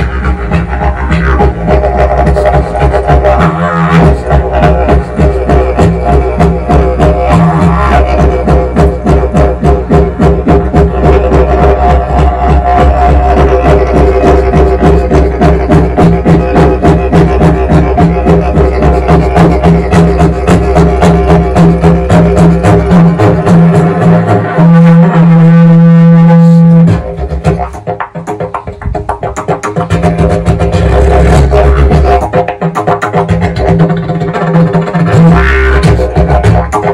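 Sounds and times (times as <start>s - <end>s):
didgeridoo drone: 0.0s - 36.9s
didgeridoo high held note: 0.0s - 36.9s.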